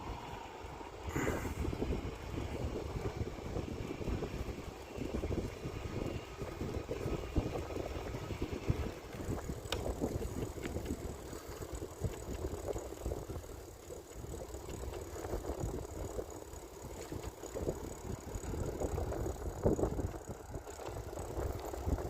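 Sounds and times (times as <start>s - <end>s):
bicycle tyre rumble on path: 0.0s - 22.0s
bike rattling over bumps: 1.0s - 22.0s.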